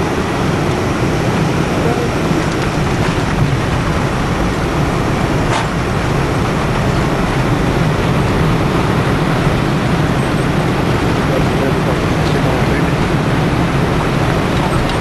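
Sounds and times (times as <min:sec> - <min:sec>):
airliner cabin engine noise: 0:00.0 - 0:15.0
low rumble: 0:00.0 - 0:15.0.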